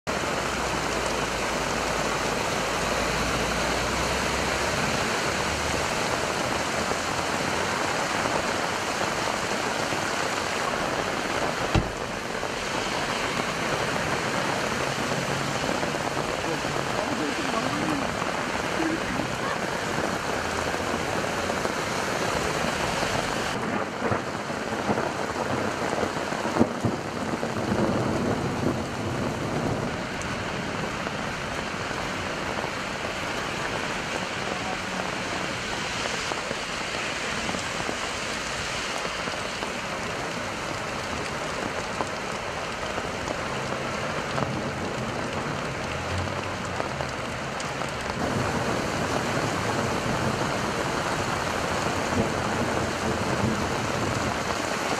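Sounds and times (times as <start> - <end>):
heavy rain hissing: 0.1 - 54.9.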